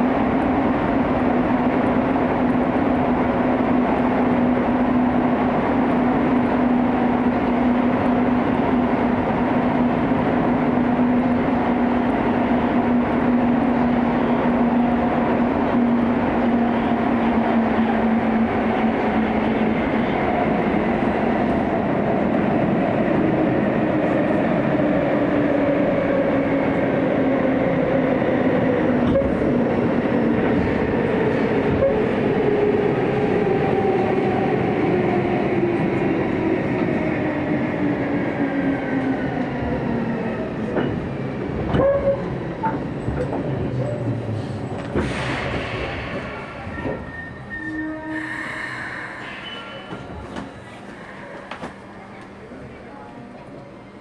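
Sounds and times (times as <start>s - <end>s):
train running through tunnel: 0.0s - 54.0s.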